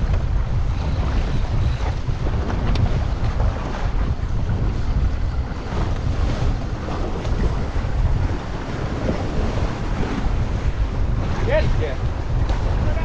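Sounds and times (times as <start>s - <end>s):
water washing against a boat: 0.0s - 13.0s
wind buffeting the microphone: 0.0s - 13.0s.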